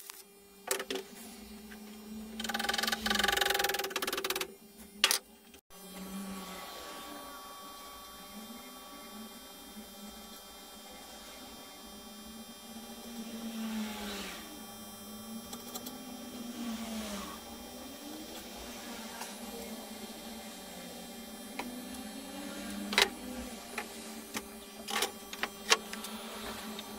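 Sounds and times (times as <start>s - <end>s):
low wavering hum: 0.3s - 26.9s.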